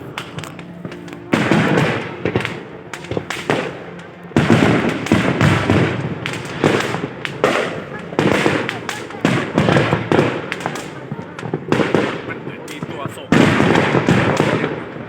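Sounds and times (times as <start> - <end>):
firework bursts: 0.0 - 15.0
fireworks crackling and popping: 0.0 - 15.0.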